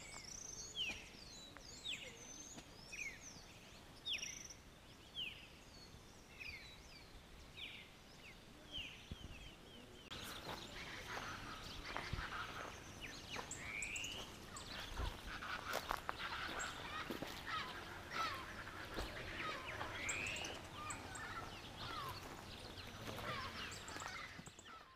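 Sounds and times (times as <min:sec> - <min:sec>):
wild birds calling: 0:00.0 - 0:24.9.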